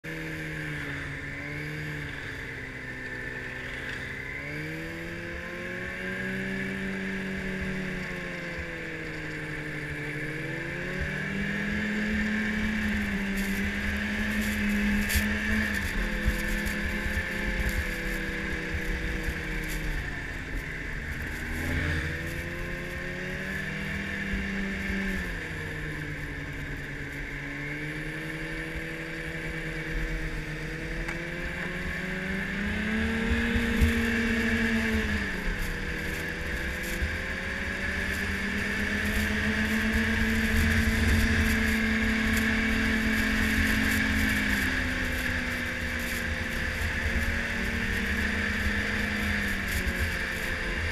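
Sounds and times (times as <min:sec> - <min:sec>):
snowmobile engine revving: 0:00.0 - 0:50.9
steady high whine: 0:00.1 - 0:50.9.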